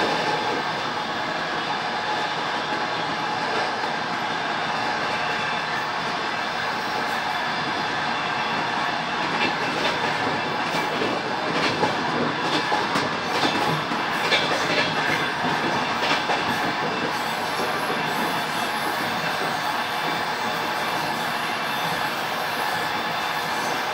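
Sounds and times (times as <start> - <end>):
train rumble: 0.0 - 23.9.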